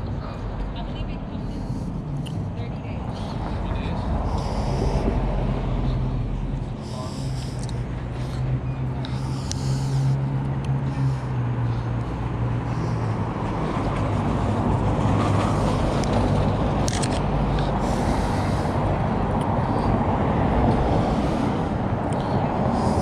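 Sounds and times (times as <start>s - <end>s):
engine hum: 0.0s - 23.0s
road and traffic rumble: 0.0s - 23.0s.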